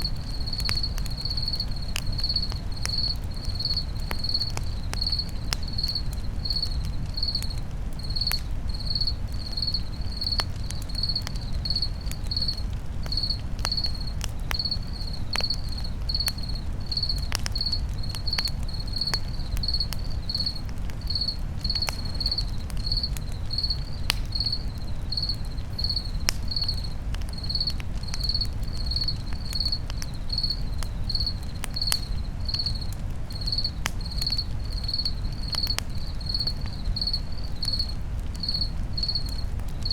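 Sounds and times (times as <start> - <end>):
campfire crackling: 0.0 - 39.9
cricket chirping: 0.0 - 39.9.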